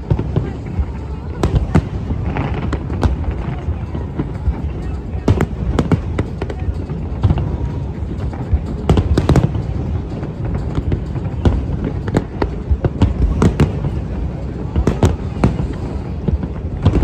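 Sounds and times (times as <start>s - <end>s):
fireworks bangs and crackles: 0.0s - 17.0s
steady low rumble: 0.0s - 17.0s.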